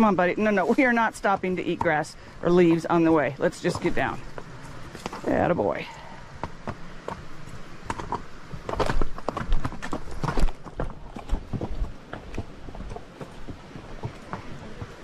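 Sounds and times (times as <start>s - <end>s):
horse hooves on trail: 0.0s - 15.0s.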